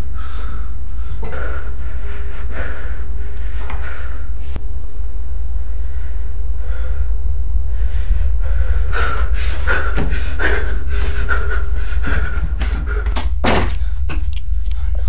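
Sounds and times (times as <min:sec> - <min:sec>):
man panting: 0:00.0 - 0:04.6, 0:05.7 - 0:15.0
loud low drone: 0:00.0 - 0:15.0.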